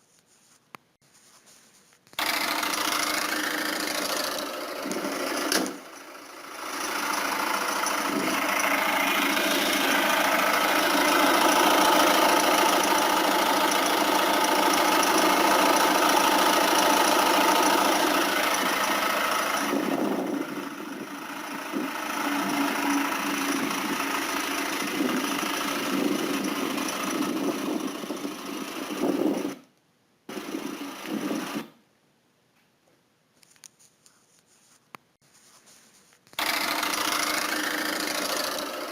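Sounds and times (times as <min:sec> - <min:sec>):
diesel engine running: 0:02.2 - 0:29.6, 0:30.3 - 0:31.7, 0:36.3 - 0:38.9.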